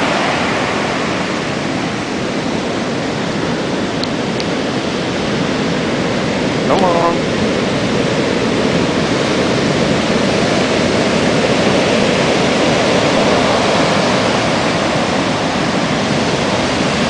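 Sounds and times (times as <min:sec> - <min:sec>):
storm surf breaking waves: 0:00.0 - 0:17.0.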